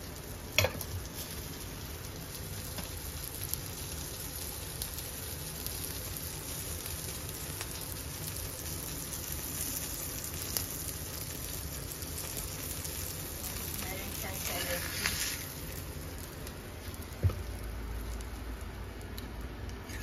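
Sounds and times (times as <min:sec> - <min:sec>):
burger sizzling in a skillet: 0:00.0 - 0:20.0.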